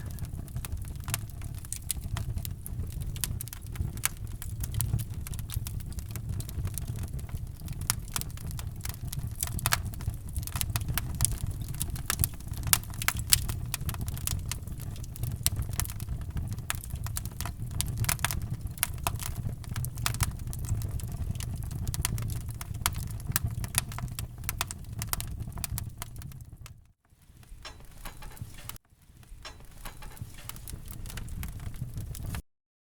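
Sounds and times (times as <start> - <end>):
wood fire crackling: 0.0 - 32.4.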